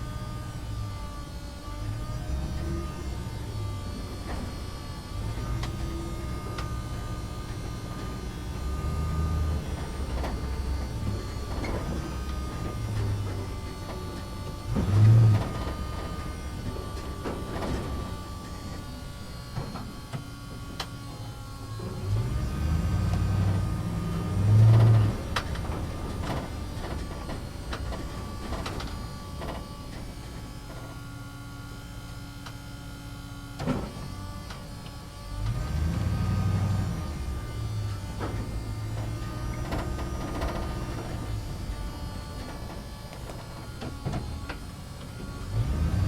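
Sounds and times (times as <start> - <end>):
toy motors and gearboxes whining: 0.0 - 46.0.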